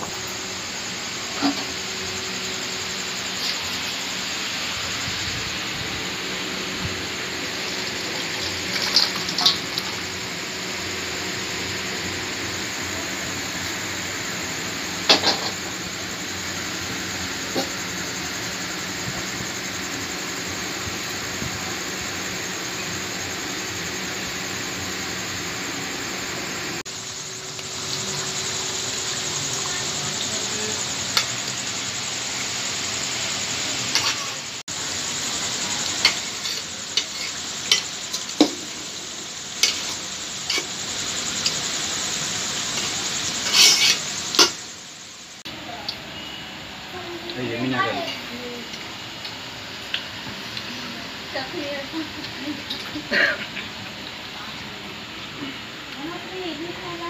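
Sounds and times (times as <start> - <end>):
pot hissing on stove: 0.0 - 57.0.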